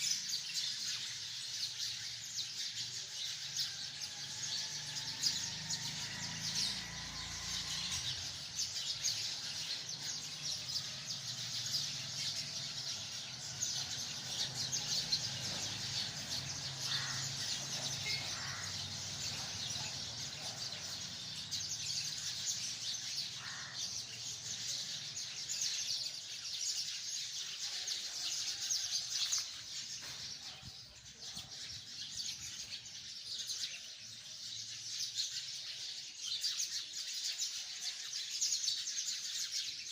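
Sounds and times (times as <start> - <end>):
flock of sparrows chirping: 0.0 - 39.9.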